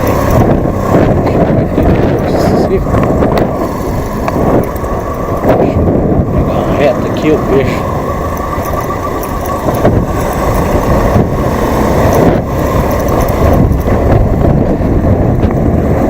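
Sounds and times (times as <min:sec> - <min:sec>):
motorcycle riding rumble: 0:00.0 - 0:16.0
wind rush: 0:00.0 - 0:16.0.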